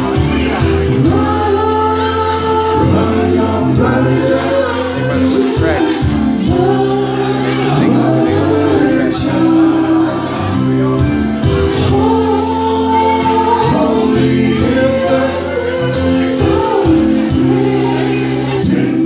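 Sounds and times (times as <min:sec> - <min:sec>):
live band music: 0:00.0 - 0:19.0
male vocal group singing in harmony: 0:00.0 - 0:19.0.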